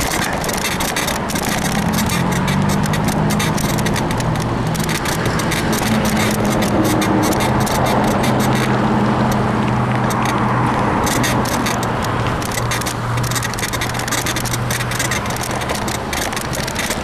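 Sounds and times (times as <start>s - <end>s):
bicycle frame creaking and rattling: 0.0s - 17.0s
vehicle engine hum: 0.0s - 17.0s.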